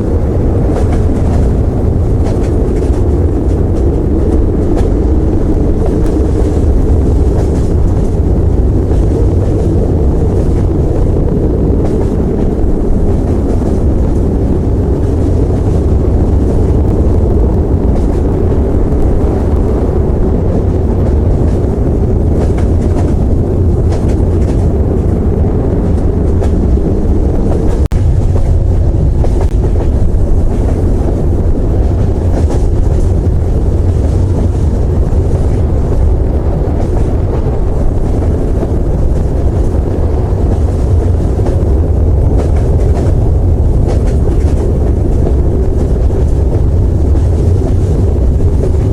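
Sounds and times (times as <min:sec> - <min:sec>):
loud low rumble: 0:00.0 - 0:48.9.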